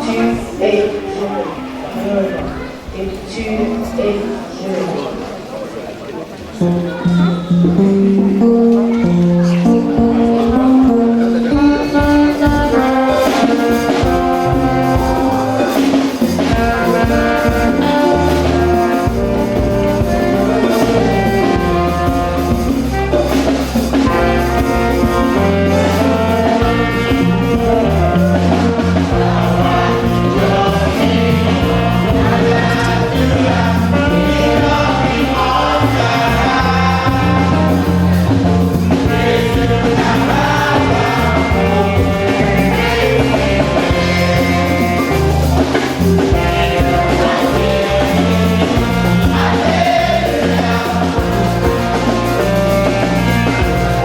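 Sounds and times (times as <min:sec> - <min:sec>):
music with bass and drums: 0:07.4 - 0:54.0.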